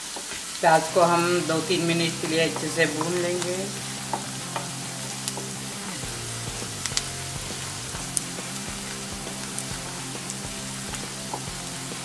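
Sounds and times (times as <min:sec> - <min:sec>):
onions sizzling in hot oil: 0:00.0 - 0:12.0
soft background music: 0:00.6 - 0:12.0.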